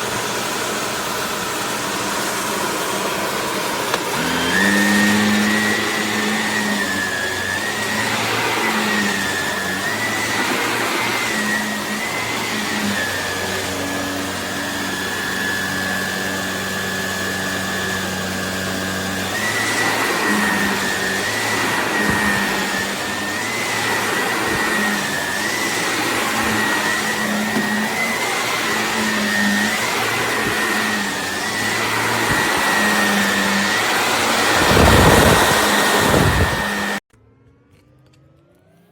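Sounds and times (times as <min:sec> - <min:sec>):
vacuum cleaner running: 0:00.0 - 0:37.1.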